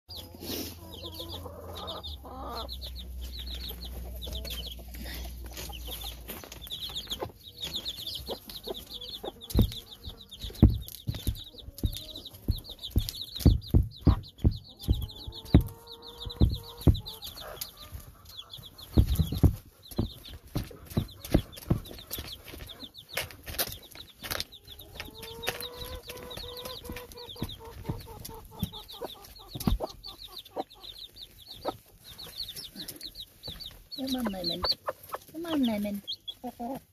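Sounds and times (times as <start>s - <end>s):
baby chicks peeping: 0.1s - 36.9s
hen clucking: 0.1s - 36.9s
hen pecking at feed: 0.2s - 36.9s.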